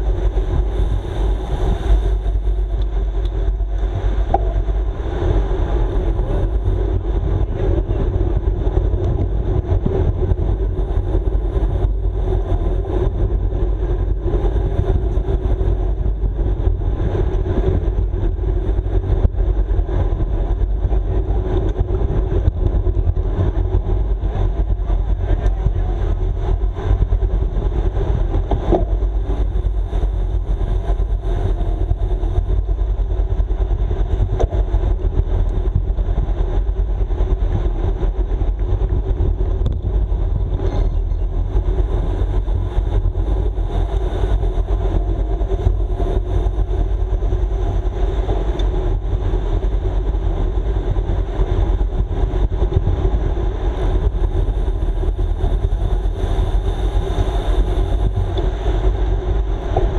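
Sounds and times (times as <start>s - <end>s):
bicycle tyres on asphalt: 0.0s - 59.9s
wind rush on microphone: 0.0s - 59.9s.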